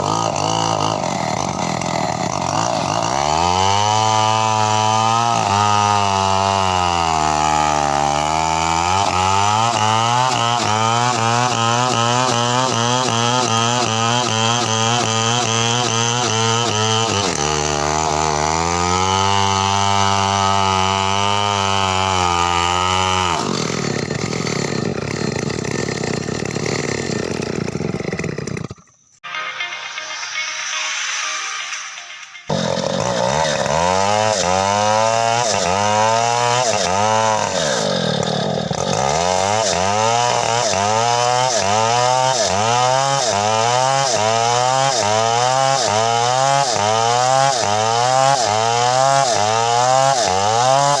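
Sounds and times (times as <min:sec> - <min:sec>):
chainsaw engine at high revs: 0:00.0 - 0:29.2, 0:32.5 - 0:51.0.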